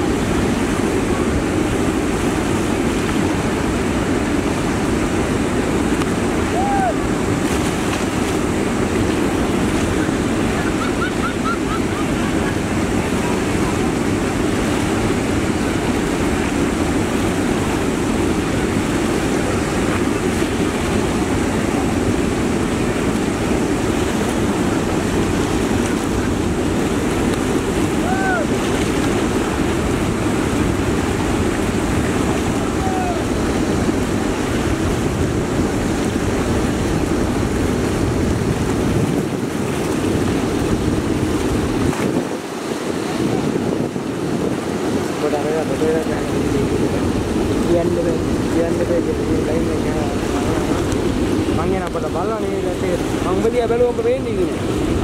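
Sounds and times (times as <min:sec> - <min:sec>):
water rushing over spillway: 0:00.0 - 0:55.0.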